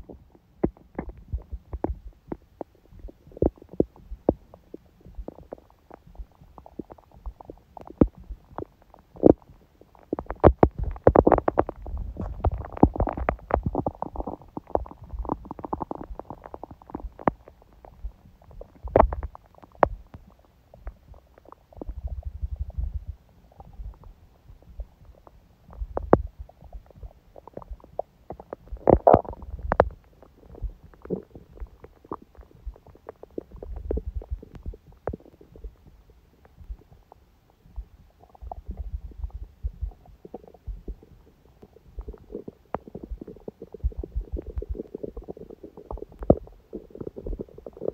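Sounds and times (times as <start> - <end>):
stomach gurgling and rumbling: 0.0 - 47.9.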